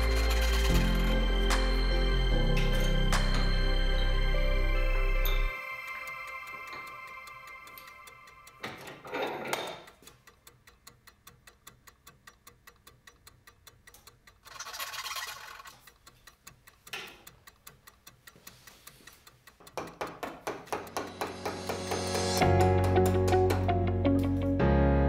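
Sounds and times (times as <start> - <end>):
background music with ticking beat: 0.0 - 24.9.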